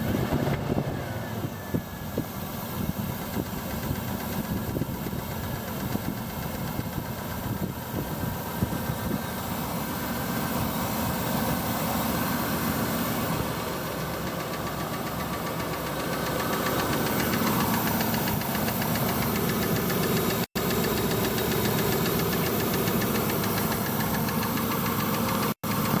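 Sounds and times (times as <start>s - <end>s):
car engine running: 0.0s - 26.0s
rapid even engine knocking: 0.0s - 26.0s.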